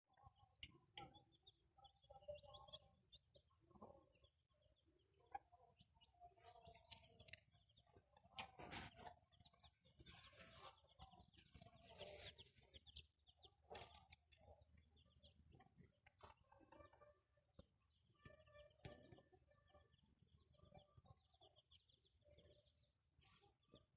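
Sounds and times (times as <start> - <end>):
chickens clucking: 0.1 - 23.9.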